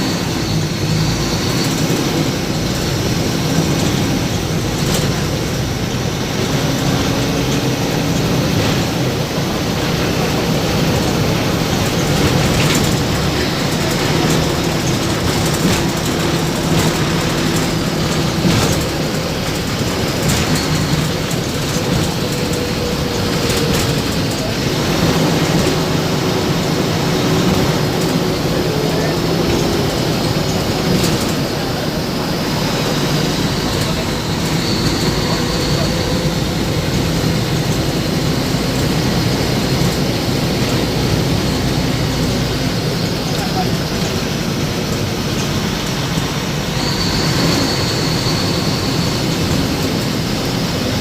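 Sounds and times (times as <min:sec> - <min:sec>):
vehicle running noise: 0:00.0 - 0:51.0.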